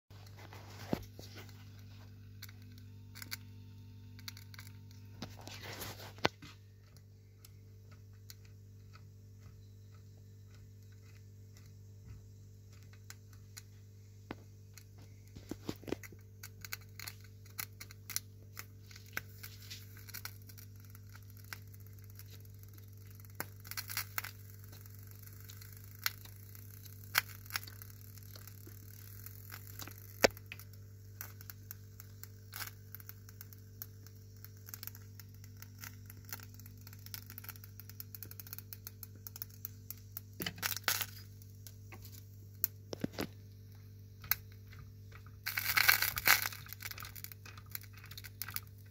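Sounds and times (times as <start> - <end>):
low electrical hum: 0.1 - 48.9.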